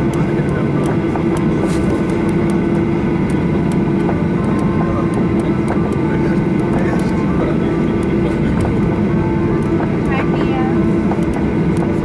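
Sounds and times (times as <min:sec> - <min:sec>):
constant hum: 0:00.0 - 0:12.0
jet engines droning at idle: 0:00.0 - 0:12.0.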